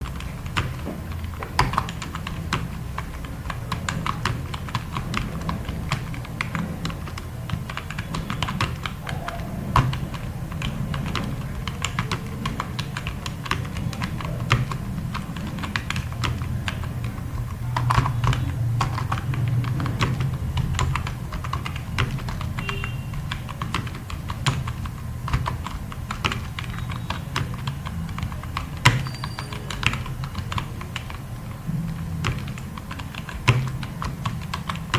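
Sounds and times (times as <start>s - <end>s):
steady low hum: 0.0s - 29.0s, 29.6s - 34.9s
fast typing on keyboard: 0.0s - 34.9s.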